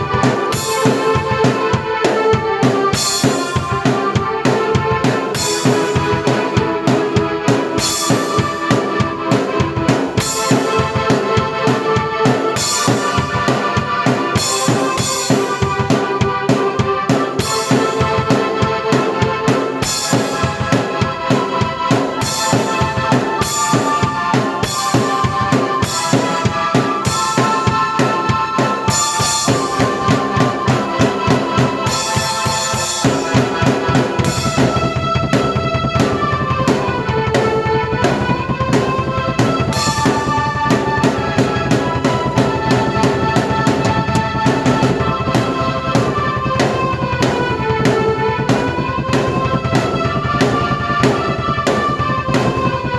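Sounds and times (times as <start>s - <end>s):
drum beat with cymbal crashes: 0.0s - 52.9s
held keyboard notes: 0.0s - 52.9s.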